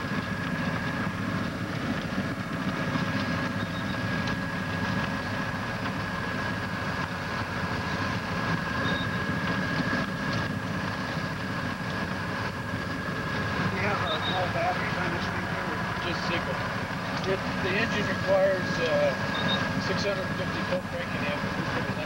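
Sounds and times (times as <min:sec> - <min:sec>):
engine low drone: 0:00.0 - 0:22.0
steady high whine: 0:00.0 - 0:22.0.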